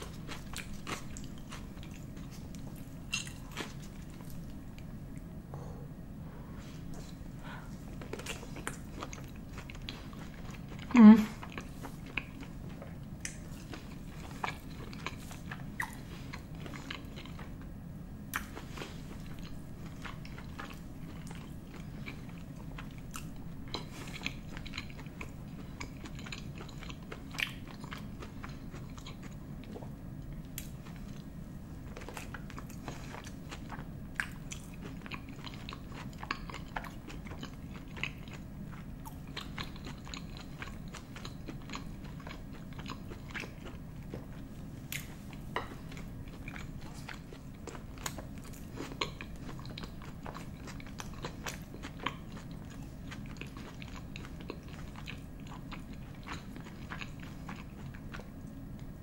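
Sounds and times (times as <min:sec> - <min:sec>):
close chewing with wet smacks: 0:00.0 - 0:04.9, 0:08.0 - 0:17.7, 0:18.3 - 0:59.0
steady low hum: 0:00.0 - 0:59.0.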